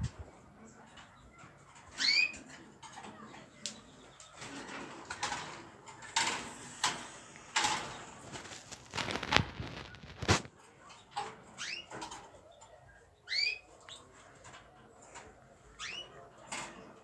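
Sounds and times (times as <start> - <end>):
cage birds chirping: 0.0 - 17.0.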